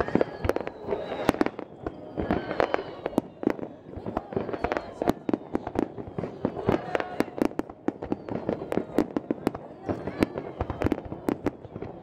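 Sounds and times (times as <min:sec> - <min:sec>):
fireworks bursting: 0:00.0 - 0:12.0
fireworks crackle: 0:00.0 - 0:12.0.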